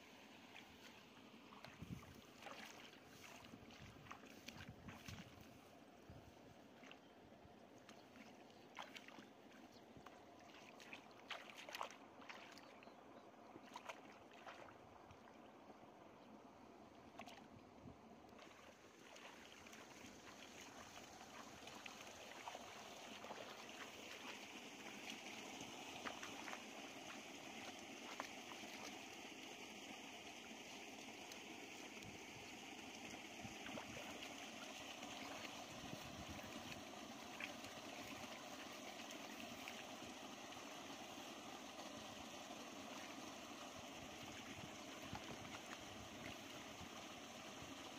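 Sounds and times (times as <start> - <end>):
splashing in shallow water: 0.0 - 47.9.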